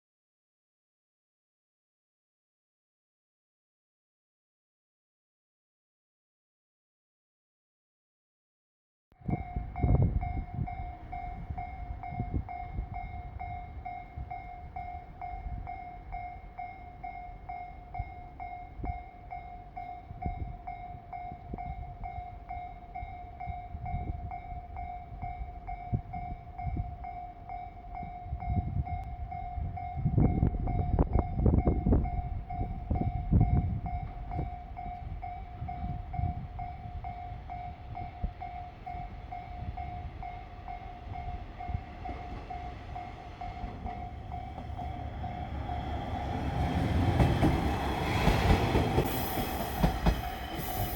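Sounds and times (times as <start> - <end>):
level crossing warning bell: 9.2 - 50.9
diesel train rumbling: 9.3 - 50.9.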